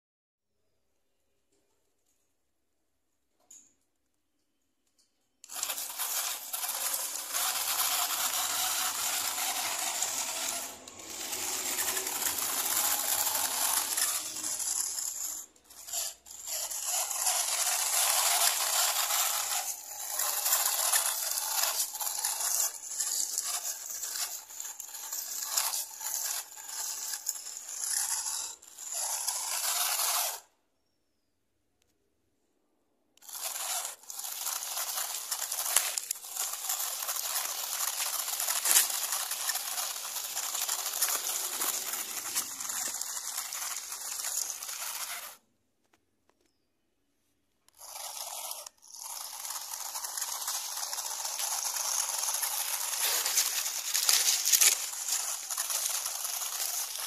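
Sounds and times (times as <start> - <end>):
toy car motor scraping and rattling: 5.4 - 30.6, 33.2 - 46.6, 47.6 - 57.0.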